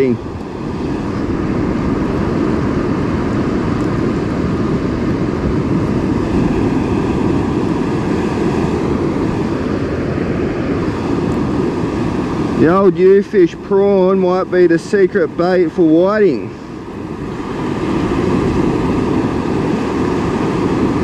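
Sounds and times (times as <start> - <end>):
surf rushing: 0.0 - 21.0
wind: 0.0 - 21.0.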